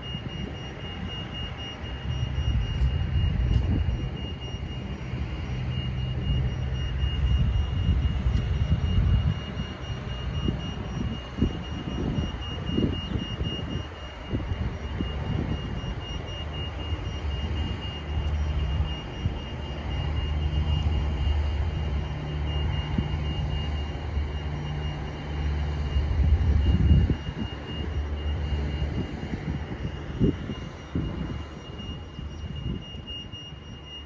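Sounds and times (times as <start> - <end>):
high-pitched whine: 0.0 - 34.0
low engine rumble: 0.0 - 34.0.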